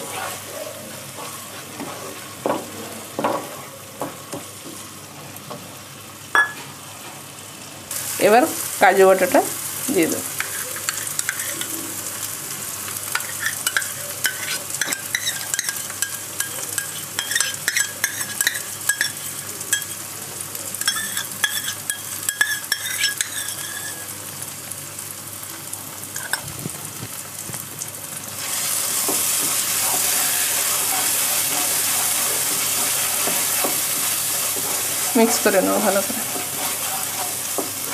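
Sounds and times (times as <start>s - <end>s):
spices sizzling in a pan: 0.0s - 37.9s.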